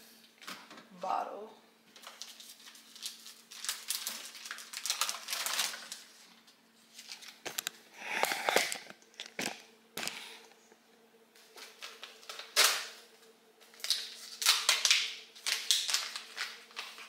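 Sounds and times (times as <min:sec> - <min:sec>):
plastic packaging crinkling: 0:01.9 - 0:10.2, 0:11.4 - 0:17.0.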